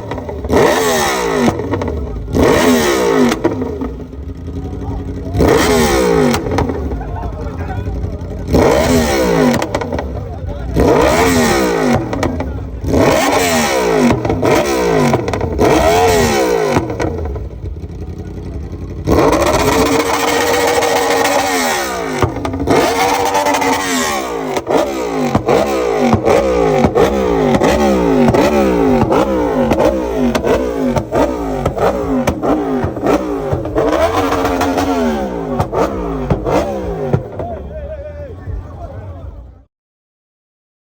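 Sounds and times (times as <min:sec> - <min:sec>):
motorcycle engine revving: 0:00.0 - 0:39.7.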